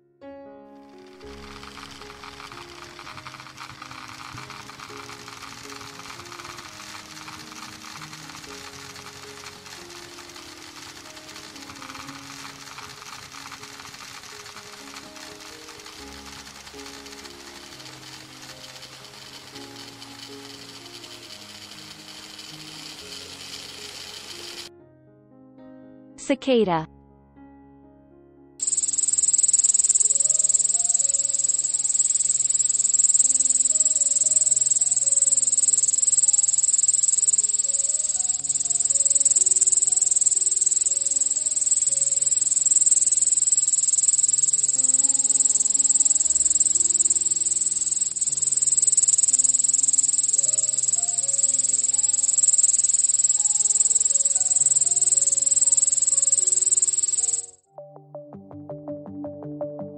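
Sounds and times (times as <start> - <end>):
cicada buzzing: 1.2 - 24.7, 28.6 - 57.6.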